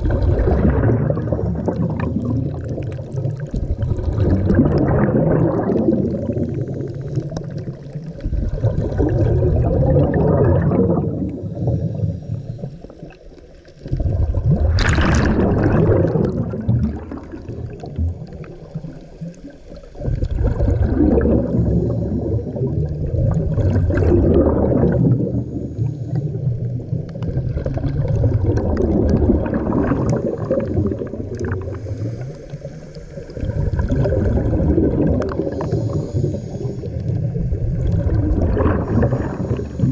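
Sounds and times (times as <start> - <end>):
diver exhaling bubbles: 0.0 - 39.9.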